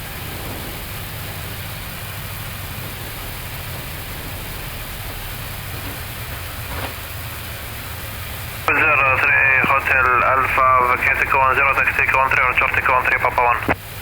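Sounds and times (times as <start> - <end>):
jet engines in reverse thrust: 0.0 - 14.0.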